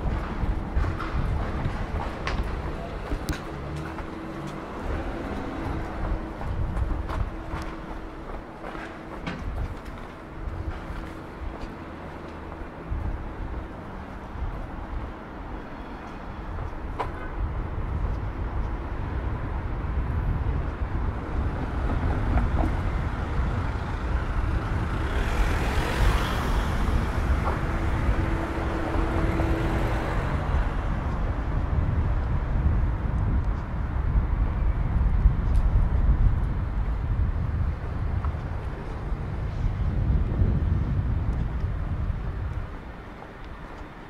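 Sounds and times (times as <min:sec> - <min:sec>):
street traffic rumble: 0:00.0 - 0:44.0.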